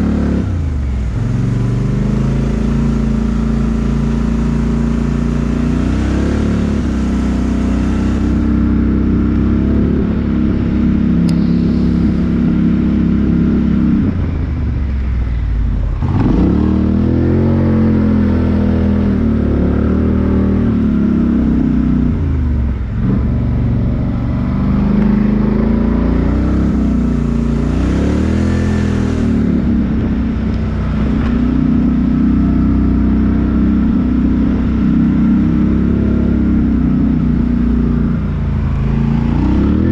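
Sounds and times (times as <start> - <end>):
off-road engine revving: 0.0 - 14.4, 15.8 - 39.9.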